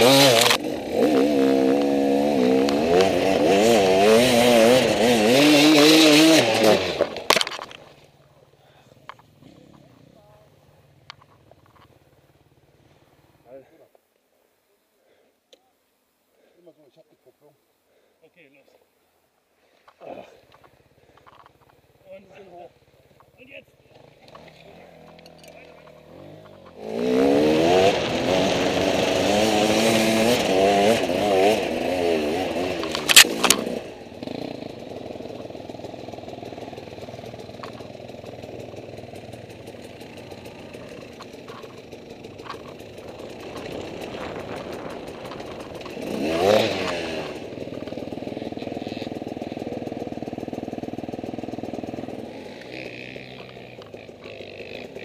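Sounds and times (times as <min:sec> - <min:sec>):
dirt bike engines revving: 0:00.0 - 0:13.4, 0:19.7 - 0:55.0.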